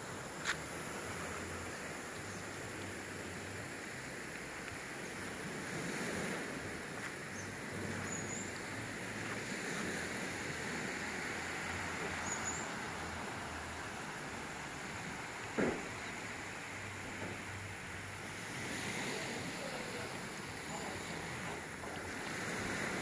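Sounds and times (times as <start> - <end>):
calm surf washing: 0.0 - 23.0.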